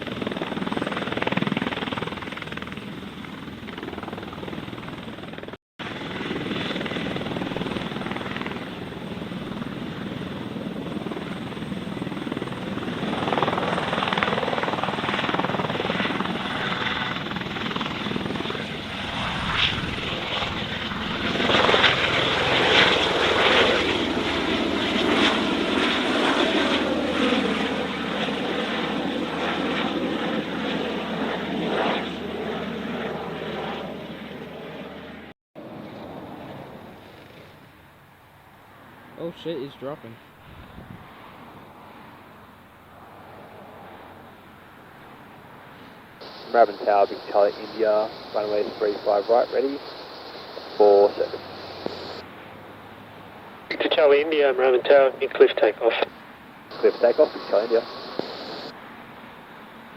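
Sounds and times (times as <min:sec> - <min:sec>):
light aircraft engine passing: 0:05.8 - 0:59.9.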